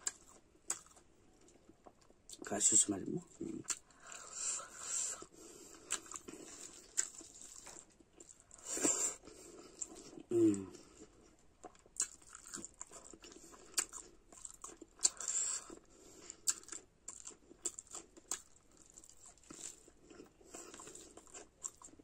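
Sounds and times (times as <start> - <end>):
person chewing food: 0.0 - 2.4, 3.3 - 22.0.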